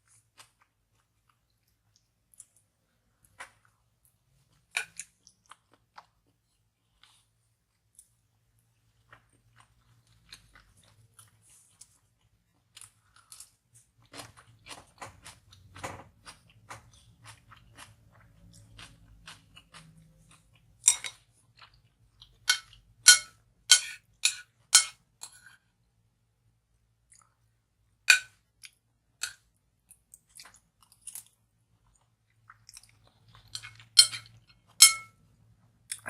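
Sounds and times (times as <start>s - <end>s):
chewing food with crunches: 0.0s - 23.2s, 26.8s - 36.0s.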